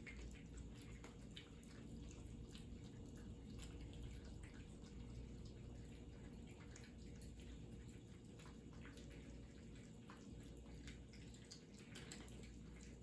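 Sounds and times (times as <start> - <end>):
cats eating: 0.0 - 13.0
low steady hum: 0.0 - 13.0.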